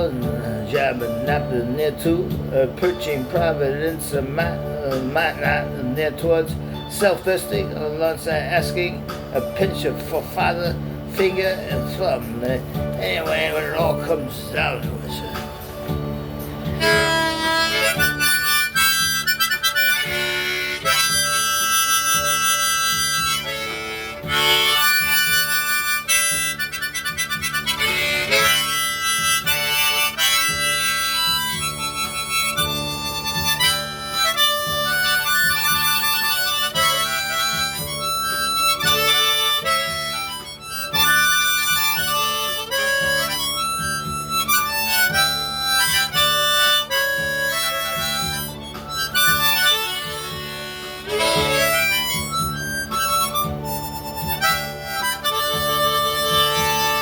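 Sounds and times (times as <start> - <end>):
harmonica playing a folk melody: 0.0 - 57.0.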